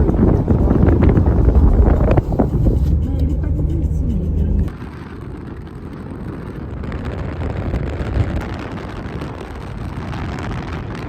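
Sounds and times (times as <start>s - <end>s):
low rumble: 0.0s - 11.0s
vehicle road and wind noise: 0.0s - 11.0s.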